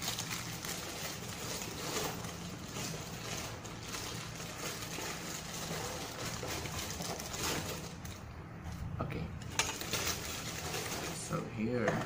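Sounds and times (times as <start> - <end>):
packaging bag rustling: 0.0 - 8.3, 9.4 - 11.4
steady low hum: 0.0 - 12.0.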